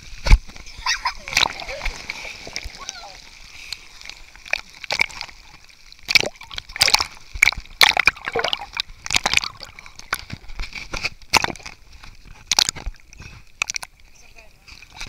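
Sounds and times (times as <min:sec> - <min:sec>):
sea water sloshing and splashing: 0:00.0 - 0:15.0.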